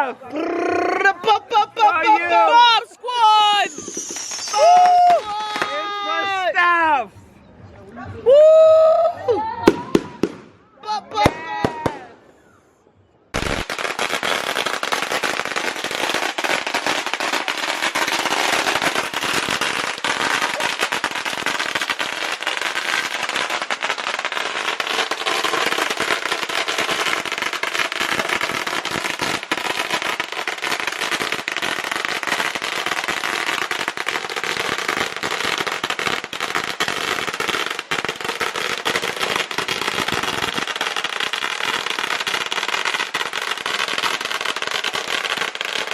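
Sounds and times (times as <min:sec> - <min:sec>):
firecrackers crackling: 0:00.0 - 0:07.0, 0:09.6 - 0:10.6, 0:13.4 - 0:45.9.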